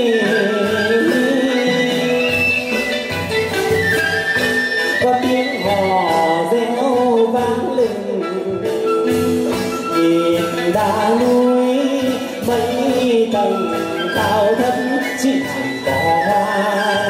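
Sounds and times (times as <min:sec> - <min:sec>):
man singing sliding melody: 0:00.0 - 0:17.0
plucked lute: 0:00.0 - 0:17.0
steady percussion beat: 0:00.0 - 0:17.0.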